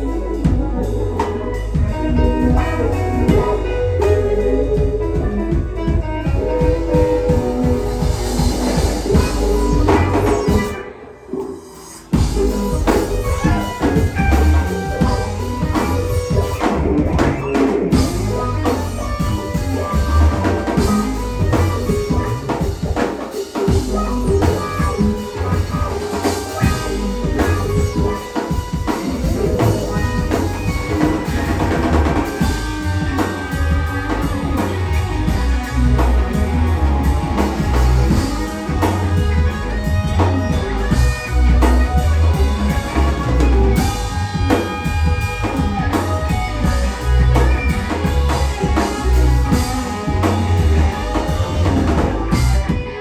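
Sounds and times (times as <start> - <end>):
drum kit beat: 0.0 - 53.0
electric bass: 0.0 - 53.0
electric guitar: 0.0 - 53.0
keyboards: 0.0 - 53.0.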